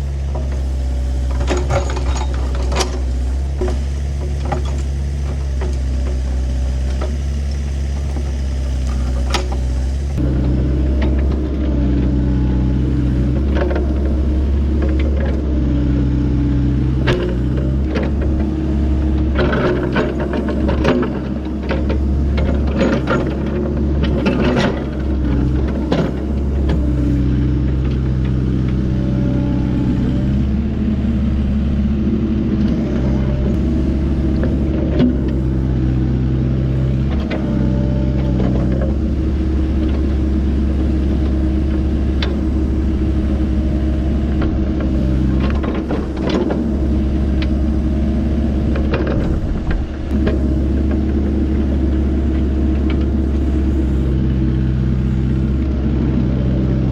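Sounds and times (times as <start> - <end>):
excavator diesel engine under load: 0.0 - 56.9.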